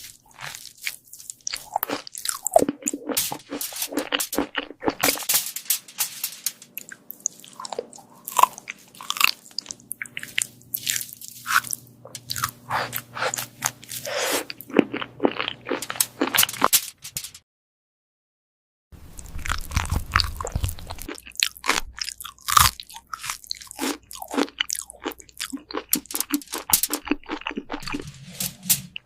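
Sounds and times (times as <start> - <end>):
cat crunching food: 0.0 - 5.5, 6.6 - 16.8, 19.0 - 28.1.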